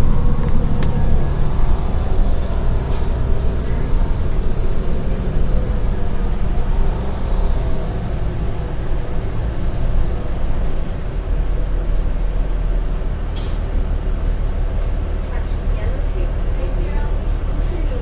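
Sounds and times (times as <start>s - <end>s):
bus engine rumbling: 0.0s - 18.0s.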